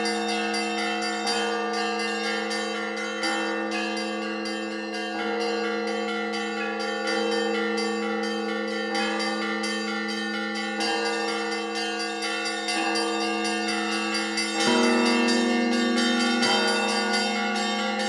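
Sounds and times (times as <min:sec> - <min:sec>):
church bells pealing: 0:00.0 - 0:18.0.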